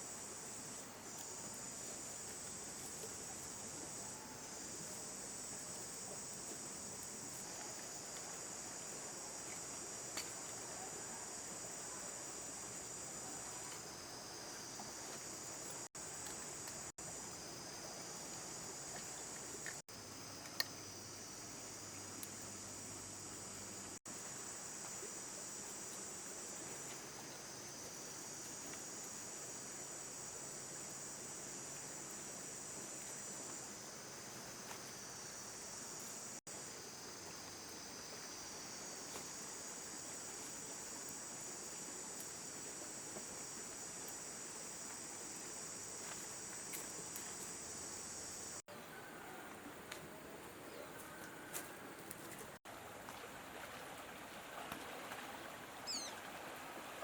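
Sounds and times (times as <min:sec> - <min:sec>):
crickets trilling: 0:00.0 - 0:49.5, 0:55.0 - 0:57.0.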